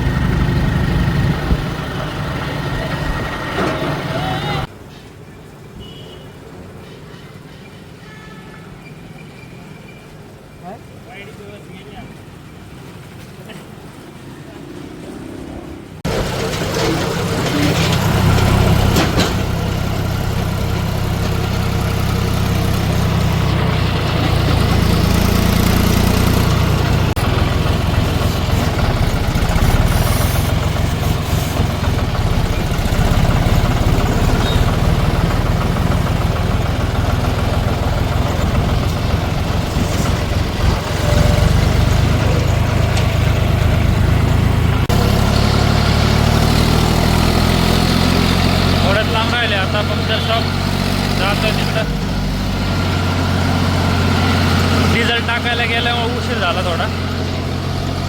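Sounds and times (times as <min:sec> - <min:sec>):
tractor diesel engine running: 0:00.0 - 0:04.7, 0:16.0 - 0:58.0.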